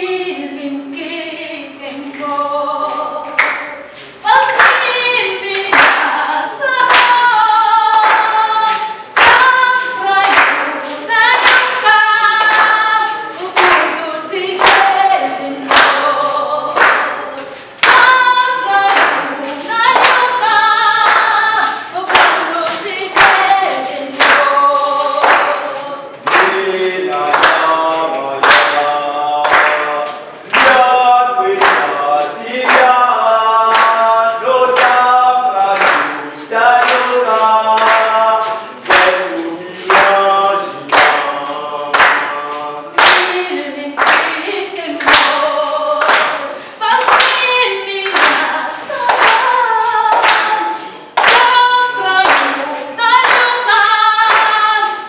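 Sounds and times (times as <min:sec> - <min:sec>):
group singing unaccompanied: 0:00.0 - 0:55.0
hand claps on the beat: 0:02.0 - 0:55.0.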